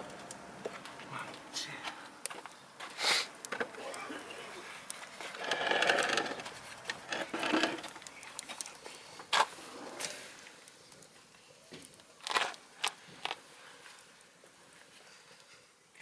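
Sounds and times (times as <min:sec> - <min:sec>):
burning wood popping: 0:00.0 - 0:15.9
wood fire crackling: 0:00.0 - 0:16.0.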